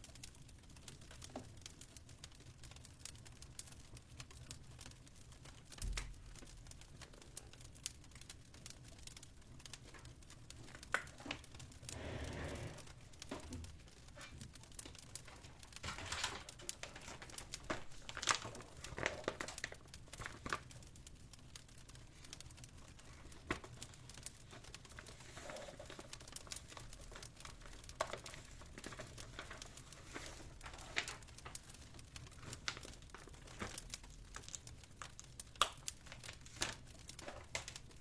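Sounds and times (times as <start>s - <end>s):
fireplace crackling: 0.0s - 38.0s.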